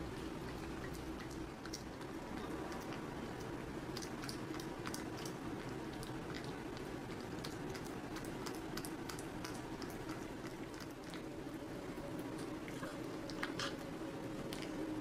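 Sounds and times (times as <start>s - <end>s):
cat chewing and licking: 0.0s - 15.0s
steady low hum: 0.0s - 15.0s.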